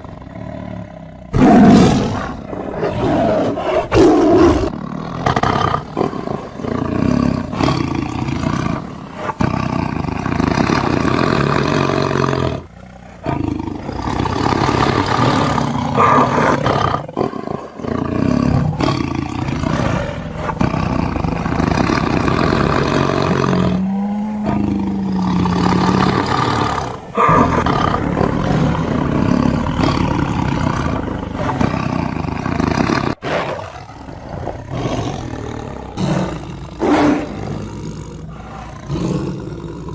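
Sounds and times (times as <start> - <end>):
tiger roaring and growling: 0.0 - 39.9.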